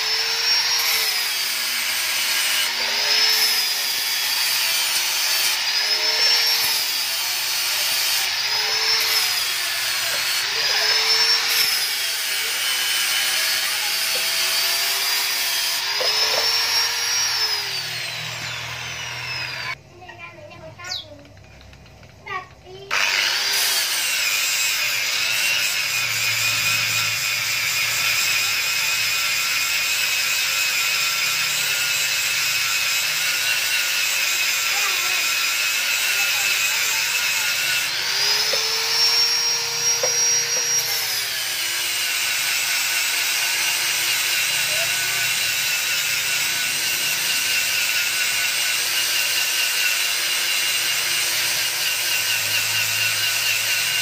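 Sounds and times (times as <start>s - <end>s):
angle grinder grinding metal: 0.0s - 19.8s, 22.2s - 54.0s.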